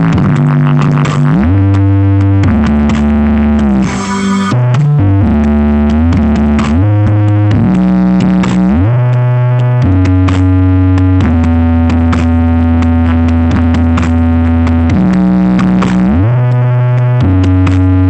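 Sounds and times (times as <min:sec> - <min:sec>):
light electronic beat: 0:00.0 - 0:18.0
synthesizer bass notes sliding: 0:00.0 - 0:18.0.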